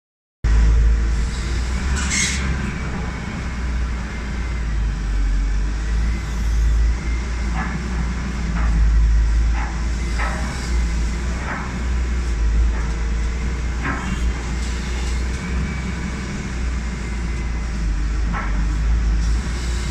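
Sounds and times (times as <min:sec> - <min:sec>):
diesel engine rumbling: 0:00.5 - 0:19.9.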